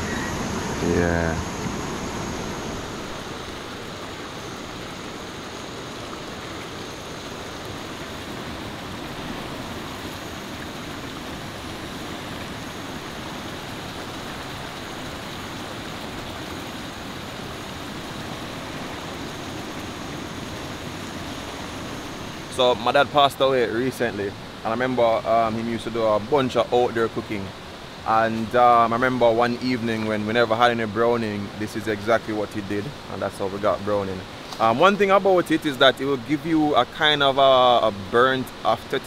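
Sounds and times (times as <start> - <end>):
river rushing over rapids: 0.0 - 39.0.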